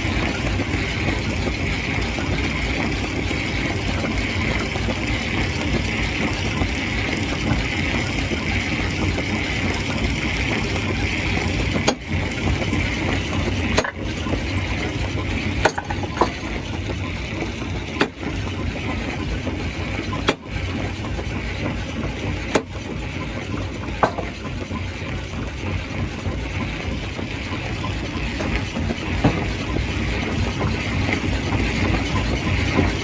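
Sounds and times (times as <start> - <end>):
stone crusher machine running: 0.0 - 33.0.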